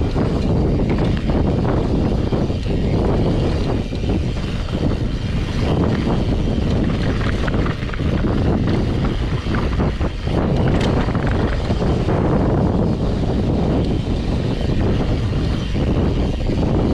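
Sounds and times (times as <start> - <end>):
bike rattling and clicking: 0.0 - 16.9
bike tyres crunching on gravel: 0.0 - 16.9
wind buffeting microphone: 0.0 - 16.9.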